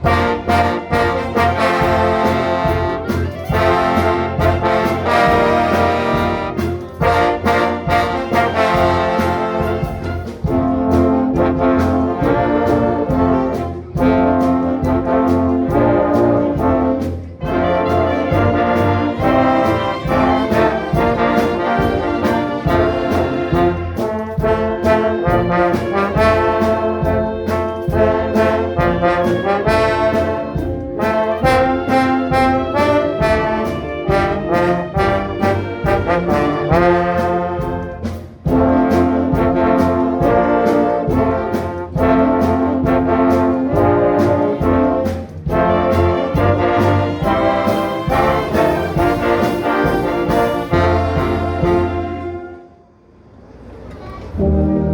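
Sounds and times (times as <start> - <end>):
brass sustained chords: 0.0 - 54.9
orchestra playing: 0.0 - 54.9.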